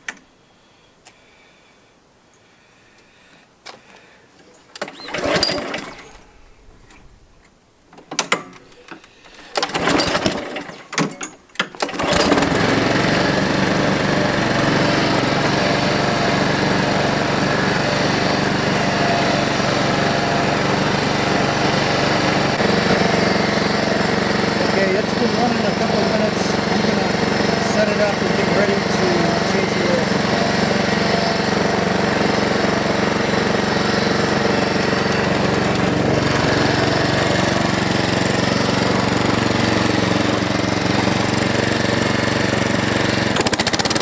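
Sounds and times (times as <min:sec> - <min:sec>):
recoil starter pulls: 0:04.4 - 0:07.0, 0:07.9 - 0:44.0
lawn mower engine running: 0:04.7 - 0:06.6, 0:08.6 - 0:44.0.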